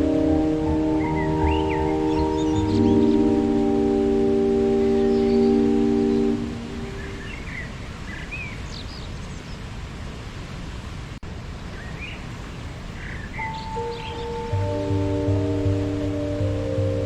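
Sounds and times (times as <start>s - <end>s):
waterfall rushing: 0.0s - 8.8s, 9.7s - 17.0s
small birds chirping: 0.0s - 9.7s, 11.7s - 17.0s.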